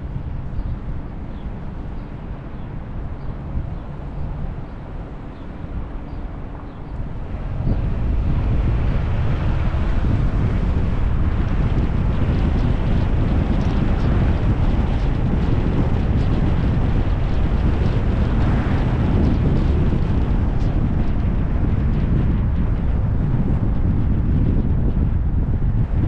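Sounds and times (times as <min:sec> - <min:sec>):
car road noise: 0:00.0 - 0:26.0
wind buffeting microphone: 0:00.0 - 0:26.0.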